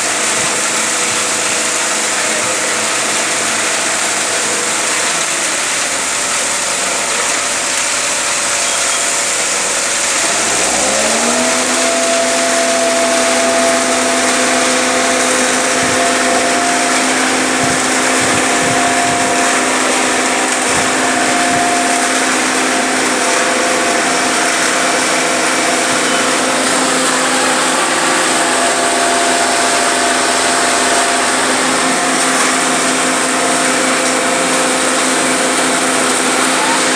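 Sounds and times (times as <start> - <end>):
construction machinery motor hum: 0.0 - 36.9
machinery whine: 0.0 - 36.9.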